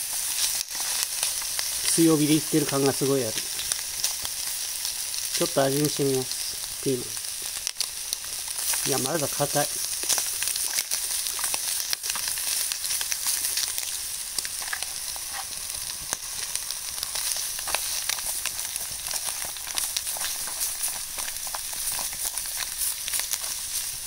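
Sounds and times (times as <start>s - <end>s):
vegetables and bacon sizzling: 0.0s - 24.0s.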